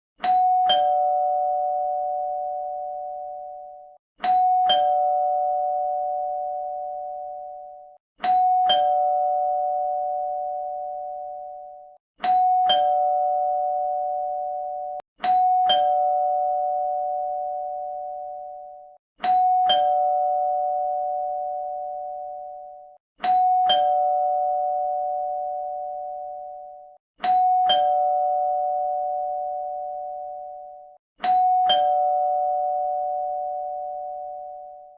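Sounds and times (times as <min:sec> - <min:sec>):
two-tone doorbell chime: 0:00.2 - 0:34.9.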